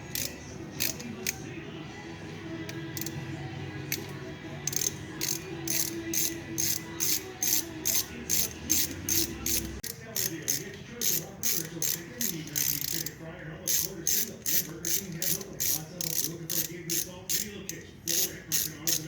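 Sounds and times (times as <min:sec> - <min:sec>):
hand ratchet clicking: 0:00.0 - 0:01.5, 0:02.6 - 0:03.2, 0:03.9 - 0:19.0.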